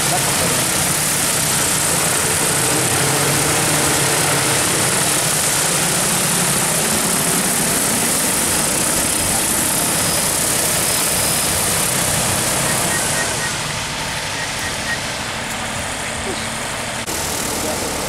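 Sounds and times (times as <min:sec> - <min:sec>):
drone rotors whirring: 0:00.0 - 0:18.0.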